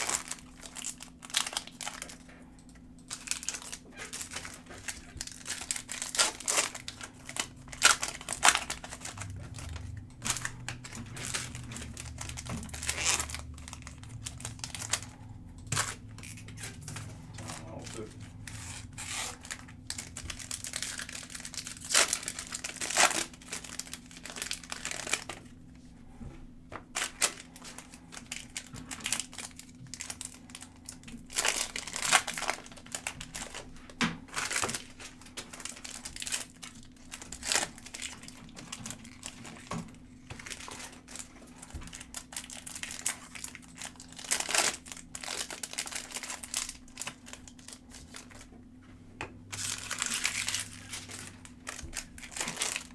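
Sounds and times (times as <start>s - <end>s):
foil wrappers crinkling: 0.0s - 25.7s, 26.8s - 48.5s, 49.4s - 52.9s
low steady hum: 0.0s - 52.9s.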